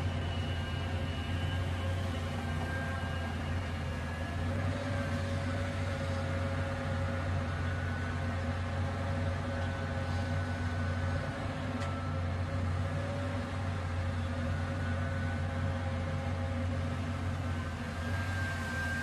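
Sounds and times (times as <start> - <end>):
excavator diesel engine humming: 0.0 - 19.0.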